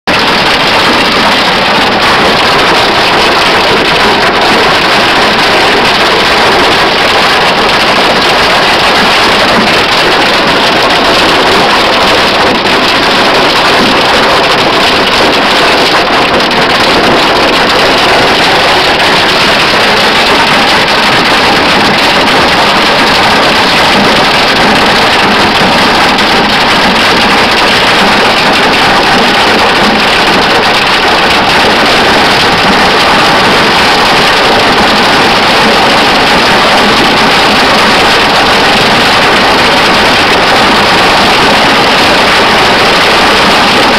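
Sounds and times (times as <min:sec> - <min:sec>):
hail and rain pelting down: 0:00.1 - 0:43.9.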